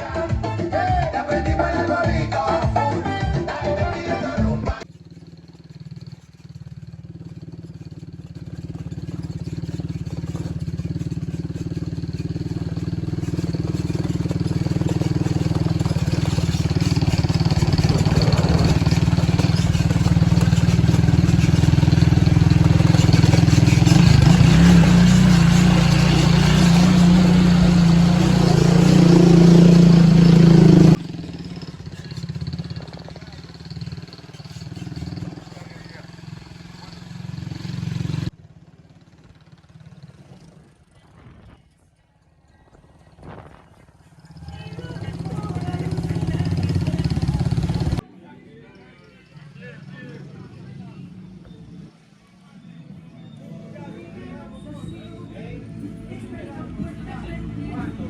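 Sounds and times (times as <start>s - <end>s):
motor vehicle engine running: 0.0s - 48.1s, 49.0s - 58.0s.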